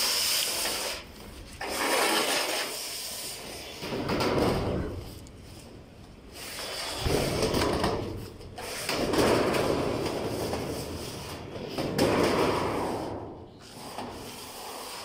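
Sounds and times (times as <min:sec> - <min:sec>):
metal roofing sheets scraping: 0:00.6 - 0:15.0.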